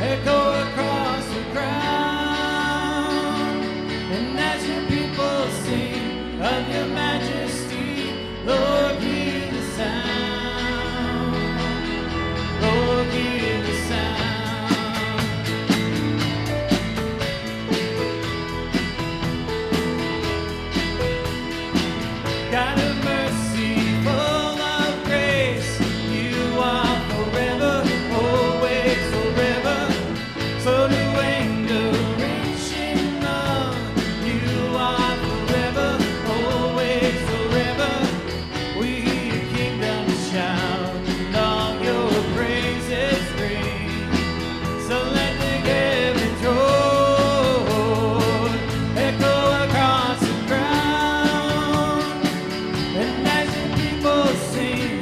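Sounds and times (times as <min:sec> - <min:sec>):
guitar-led band music: 0:00.0 - 0:55.0.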